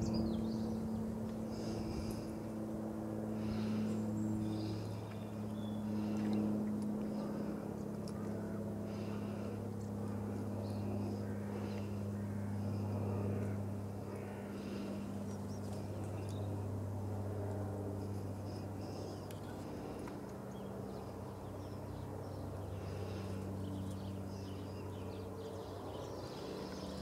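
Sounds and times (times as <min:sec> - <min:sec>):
distant engine hum: 0:00.0 - 0:27.0.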